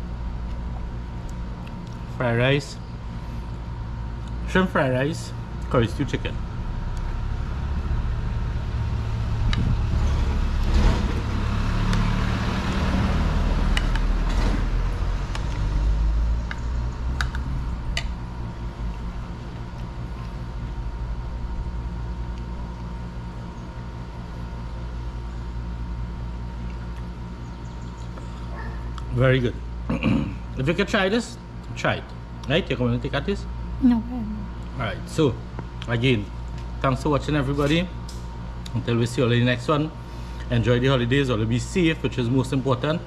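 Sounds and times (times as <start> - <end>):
low background rumble: 0.0 - 11.7, 12.7 - 43.0.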